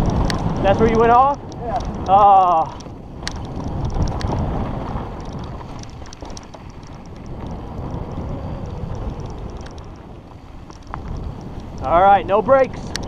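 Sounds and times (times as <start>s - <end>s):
bike ticks and rattles: 0.0s - 13.0s
bike tyres rolling on gravel: 0.0s - 13.0s
wind buffeting microphone: 0.0s - 13.0s.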